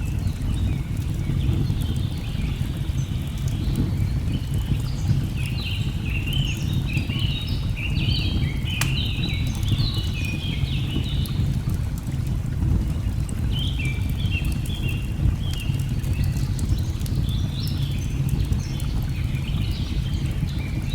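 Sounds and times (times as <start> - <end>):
log fire crackling: 0.0 - 20.9.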